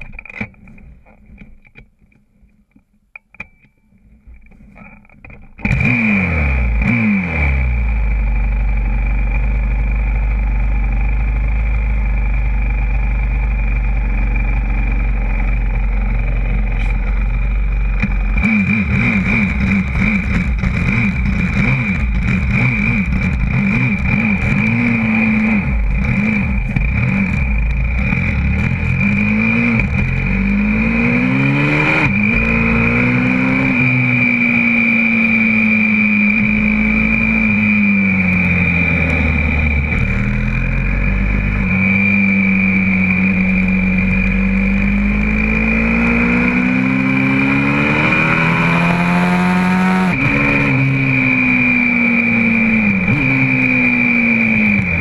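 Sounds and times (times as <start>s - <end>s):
motorbike engine idling and revving: 5.2s - 55.0s.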